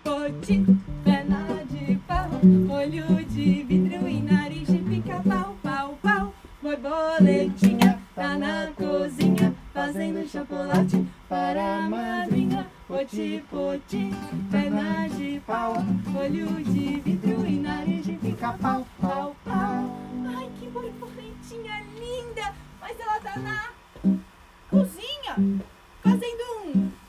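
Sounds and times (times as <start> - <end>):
person singing: 0.0 - 22.6
acoustic guitar playing: 0.0 - 27.0.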